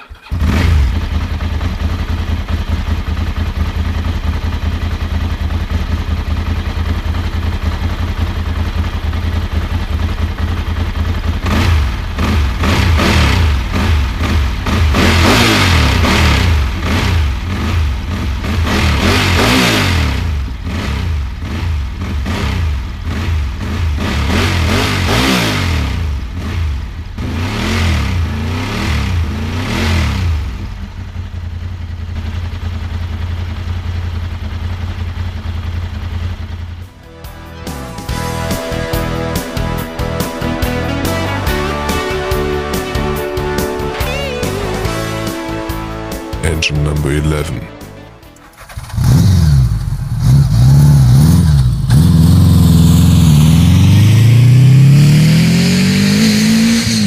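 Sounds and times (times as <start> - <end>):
motorcycle engine idling and revving: 0.0 - 47.0, 47.7 - 57.0.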